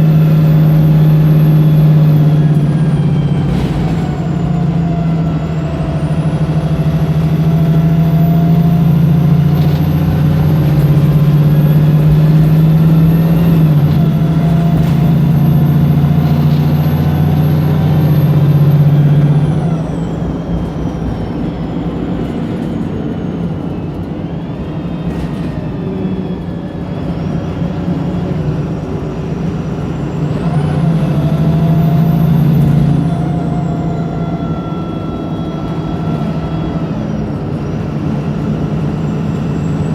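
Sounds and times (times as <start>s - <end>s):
bus diesel engine accelerating: 0.0s - 39.9s
high engine whine: 0.0s - 39.9s.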